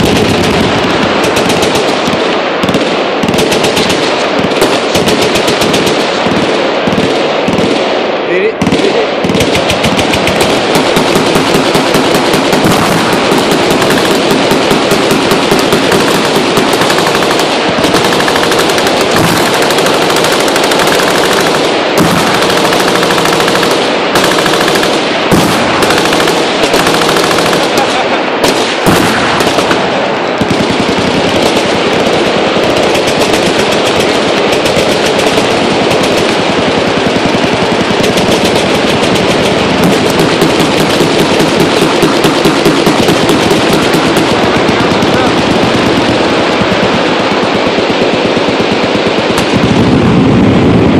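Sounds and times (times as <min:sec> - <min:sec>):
machine guns firing: 0:00.0 - 0:50.9.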